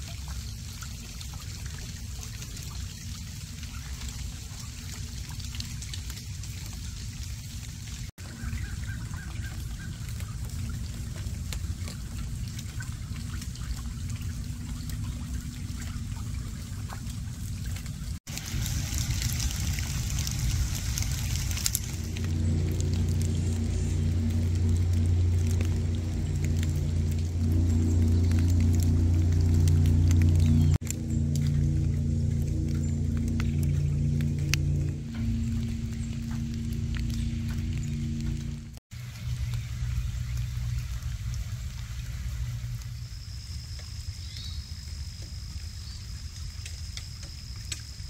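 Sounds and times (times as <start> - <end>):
rain falling on water: 0.0 - 48.0
low rumble: 3.4 - 43.8.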